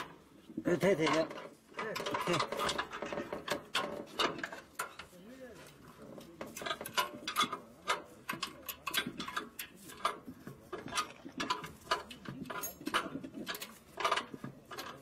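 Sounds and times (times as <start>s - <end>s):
metal parts clicking and clinking: 0.8s - 5.2s, 6.4s - 15.0s.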